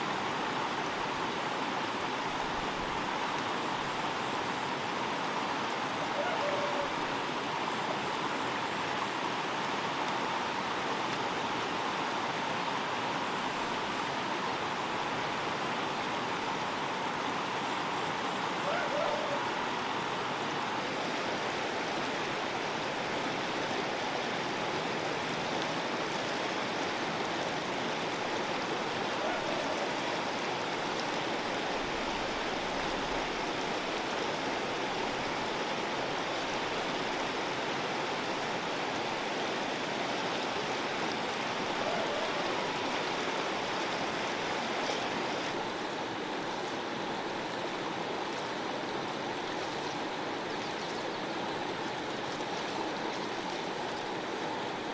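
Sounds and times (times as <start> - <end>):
river water flowing: 0.0 - 54.9.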